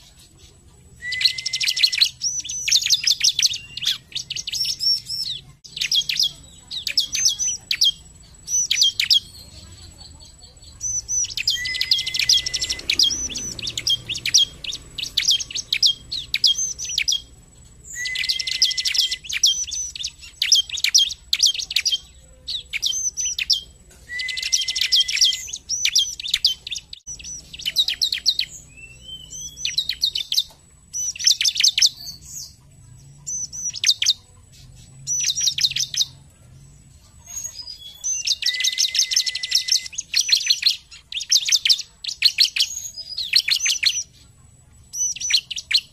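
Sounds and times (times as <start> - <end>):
bird singing rapid high chirps: 0.0 - 45.9.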